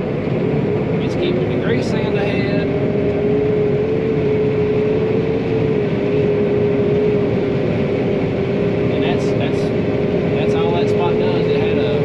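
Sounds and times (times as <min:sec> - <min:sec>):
combine harvester rumbling: 0:00.0 - 0:12.0
steady mechanical whine: 0:00.0 - 0:12.0.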